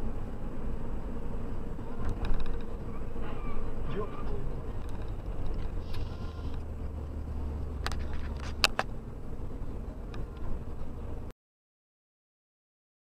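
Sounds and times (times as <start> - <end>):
car engine and tyre rumble: 0.0 - 11.3.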